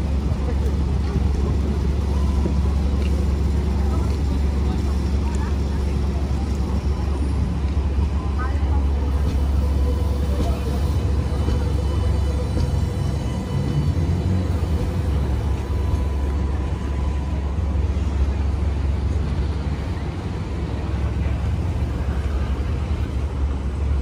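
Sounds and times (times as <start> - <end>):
tram rumbling past: 0.0 - 24.0.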